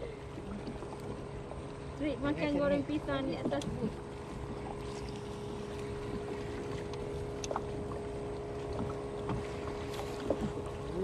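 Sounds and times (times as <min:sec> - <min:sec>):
electric boat motor humming: 0:00.0 - 0:11.0.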